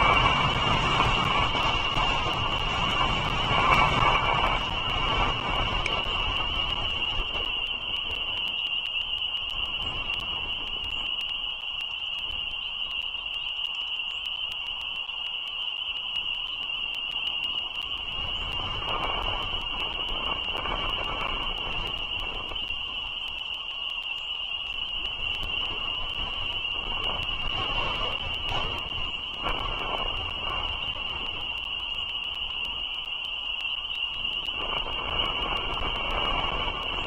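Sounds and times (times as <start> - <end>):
high-pitched ringing tone: 0.0 - 37.0.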